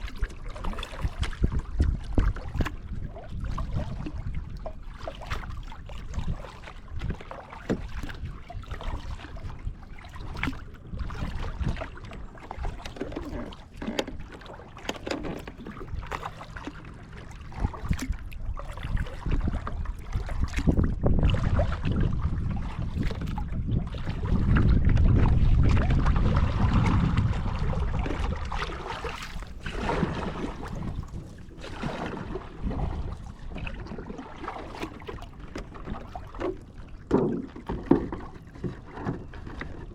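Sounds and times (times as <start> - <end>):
paddle splashing water: 0.0 - 39.9
wind rumbling on microphone: 0.0 - 39.9.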